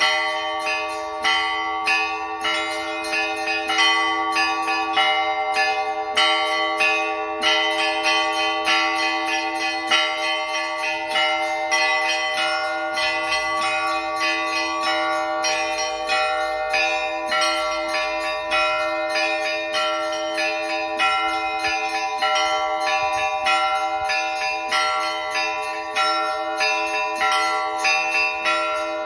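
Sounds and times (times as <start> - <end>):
large bells ringing: 0.0 - 29.0
small church bells struck quickly: 0.0 - 29.0.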